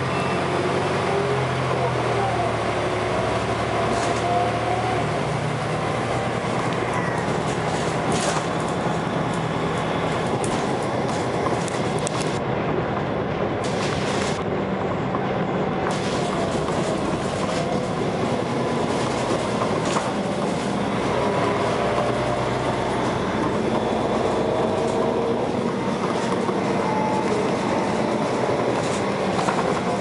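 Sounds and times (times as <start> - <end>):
bus body rattling: 0.0 - 30.0
bus engine running: 0.0 - 30.0.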